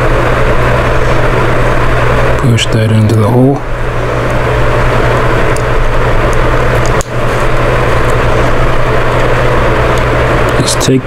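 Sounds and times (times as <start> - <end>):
mechanical drone with low hum: 0.0 - 11.0
rushing noise: 0.0 - 11.0.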